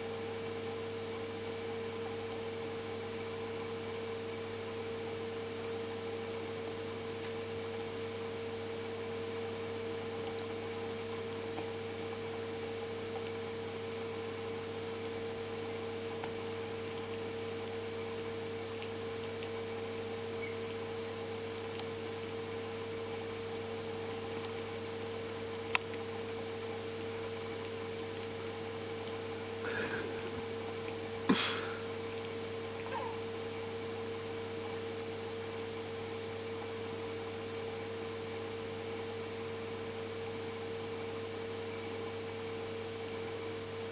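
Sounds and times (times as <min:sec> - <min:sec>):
electrical hum: 0:00.0 - 0:43.9.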